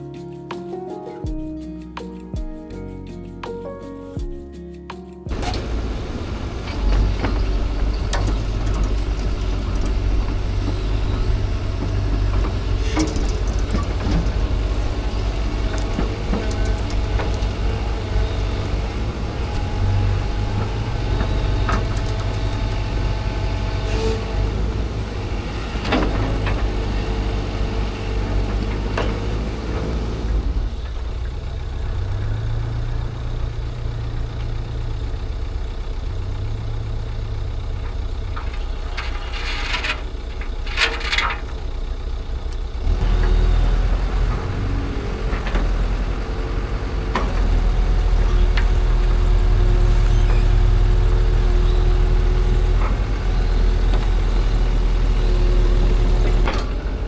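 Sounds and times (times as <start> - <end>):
heavy engine rumbling: 4.5 - 57.0.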